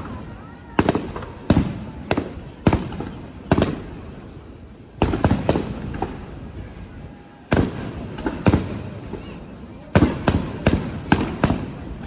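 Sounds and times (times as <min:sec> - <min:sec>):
fireworks bursting with booms: 0:00.0 - 0:12.0.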